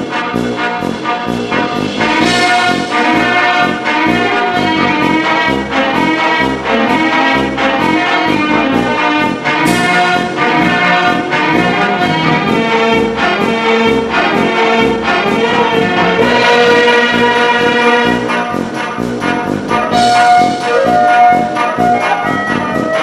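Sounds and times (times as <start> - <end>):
upbeat brass orchestral music: 0.0 - 23.0.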